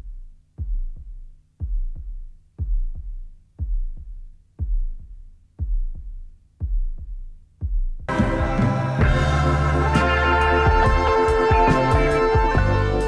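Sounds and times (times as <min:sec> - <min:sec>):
electronic heartbeat bass beat: 0:00.0 - 0:13.0.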